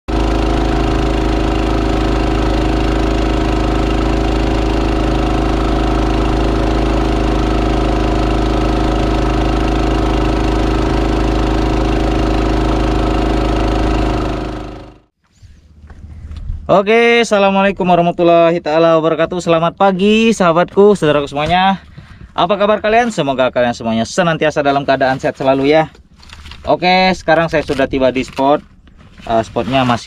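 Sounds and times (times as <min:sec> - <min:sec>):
outboard motor running: 0:00.0 - 0:17.6, 0:19.2 - 0:30.0.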